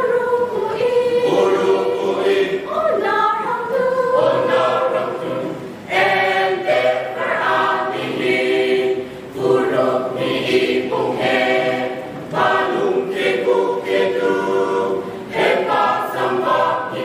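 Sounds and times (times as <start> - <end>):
mixed choir singing a hymn: 0.0 - 17.0.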